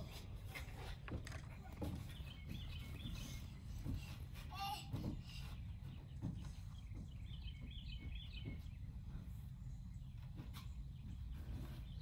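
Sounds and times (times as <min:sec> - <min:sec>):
songbird chirping: 0:01.5 - 0:04.6, 0:05.4 - 0:12.0.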